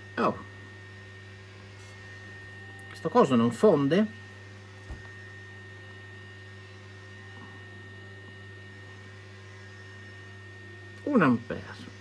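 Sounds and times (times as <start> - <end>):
faint high whine: 0.0 - 12.0
low electrical mains hum: 0.0 - 12.0.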